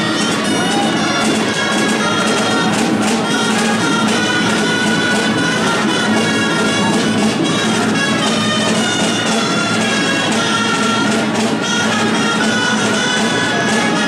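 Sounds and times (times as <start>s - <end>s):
reed wind band street music: 0.0s - 14.0s.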